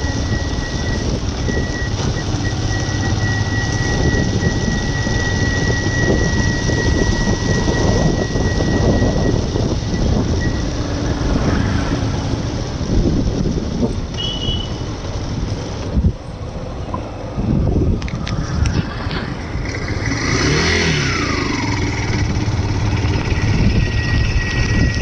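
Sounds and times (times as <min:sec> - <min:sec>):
high whine: 0:00.0 - 0:15.1, 0:16.9 - 0:25.0
vehicle rumble: 0:00.0 - 0:25.0.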